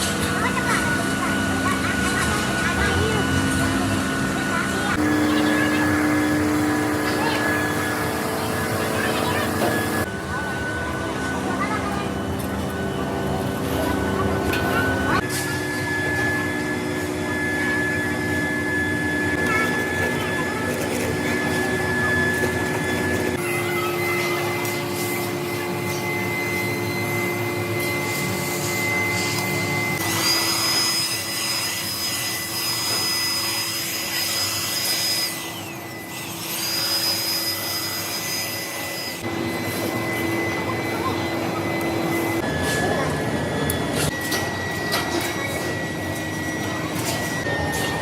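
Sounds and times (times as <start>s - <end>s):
high whine of metal cutting: 0.0s - 48.0s
machine tool humming: 0.0s - 48.0s.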